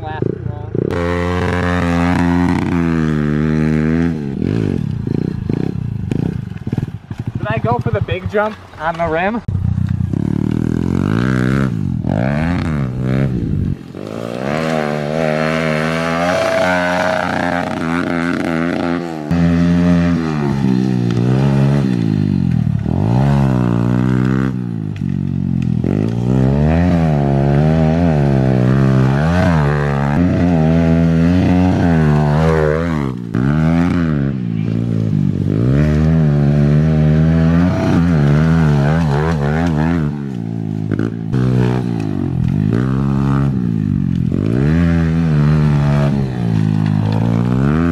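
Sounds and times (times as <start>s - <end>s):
motorbike engine revving: 0.0s - 47.9s
wheel rim running on dirt: 4.3s - 47.9s.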